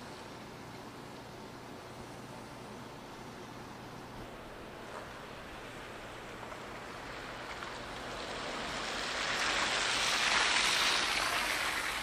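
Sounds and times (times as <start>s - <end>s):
rushing hiss of snowstorm: 2.0s - 12.0s.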